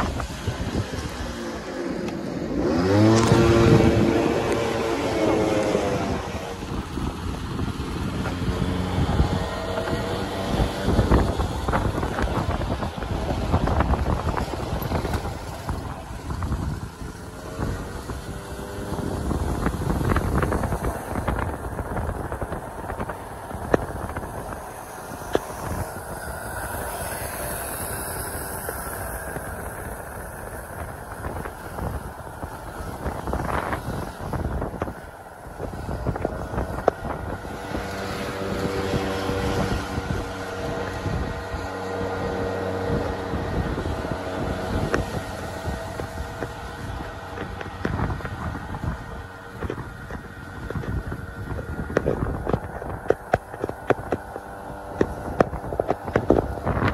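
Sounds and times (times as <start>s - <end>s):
traffic background rumble: 0.0s - 56.9s
vehicles passing: 0.0s - 56.9s.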